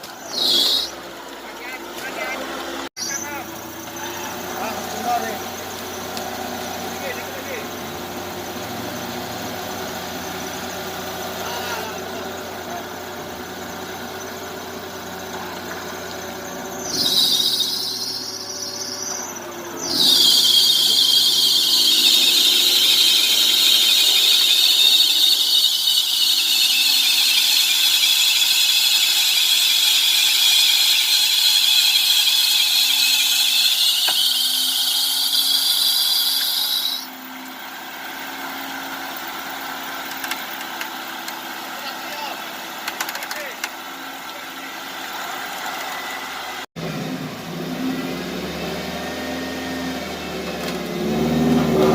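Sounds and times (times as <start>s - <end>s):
engine running: 0.0s - 51.9s
high-pitched mechanical squeal: 0.0s - 51.9s.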